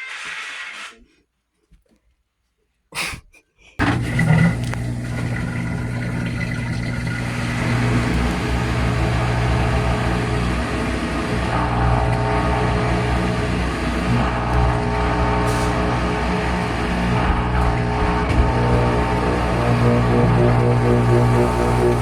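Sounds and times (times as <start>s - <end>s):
washer drain pump humming: 3.8s - 22.0s.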